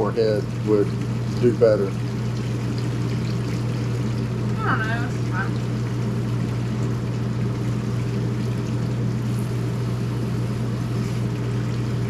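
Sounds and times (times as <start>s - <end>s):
steady low hum: 0.0s - 12.0s
tap water running: 0.0s - 12.0s.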